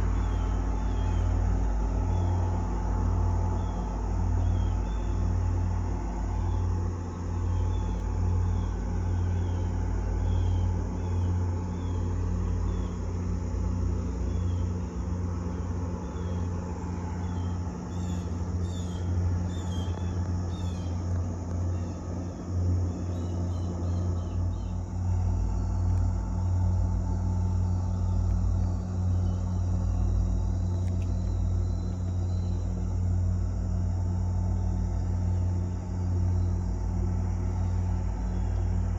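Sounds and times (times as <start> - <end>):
diesel locomotive engine rumbling: 0.0 - 38.9.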